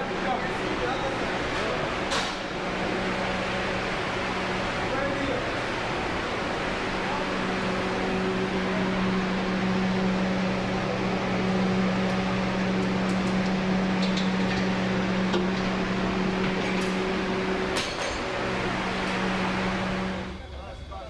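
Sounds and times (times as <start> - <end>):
mechanical hum: 0.0 - 21.0
noisy drone: 0.0 - 21.0.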